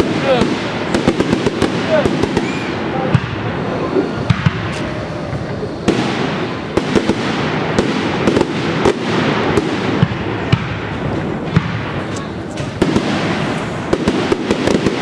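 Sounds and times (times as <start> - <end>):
fireworks crackling: 0.0 - 15.0
fireworks sharp bangs: 0.0 - 15.0.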